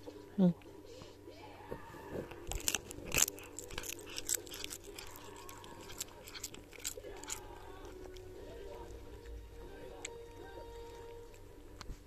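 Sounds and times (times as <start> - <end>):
cat crunching seaweed: 2.2 - 12.0.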